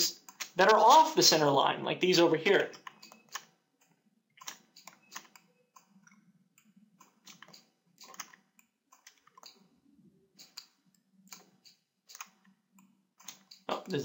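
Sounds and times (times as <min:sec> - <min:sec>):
computer mouse and keyboard clicks: 0:00.2 - 0:01.0, 0:02.5 - 0:09.6, 0:10.4 - 0:14.0.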